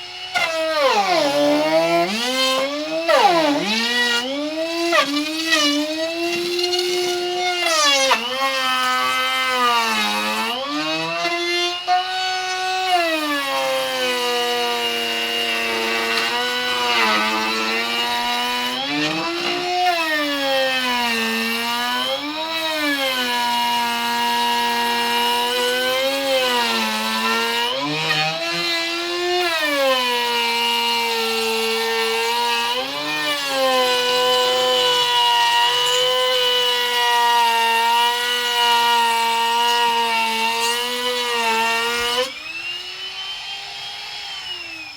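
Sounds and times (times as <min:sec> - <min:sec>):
power tool cutting wood: 0:00.0 - 0:44.9.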